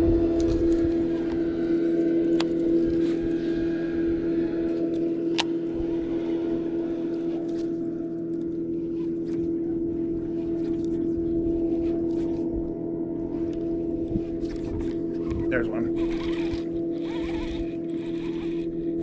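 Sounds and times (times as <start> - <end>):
electric boat motor humming: 0.0 - 19.0.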